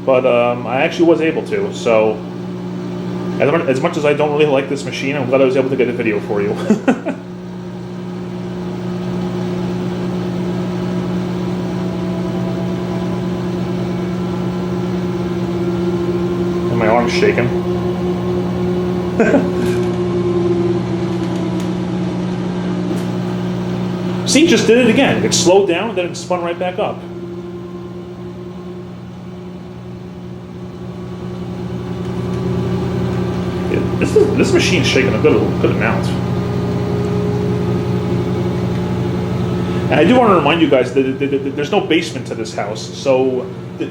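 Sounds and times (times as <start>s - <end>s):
washing machine spinning: 0.0s - 43.9s.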